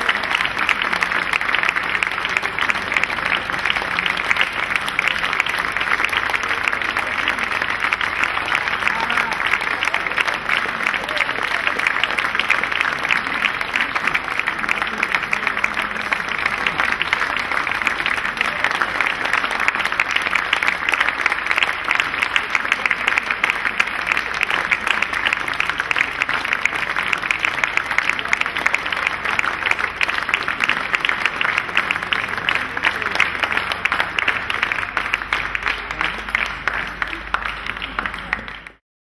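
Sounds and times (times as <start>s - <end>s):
crowd applauding: 0.0s - 38.8s.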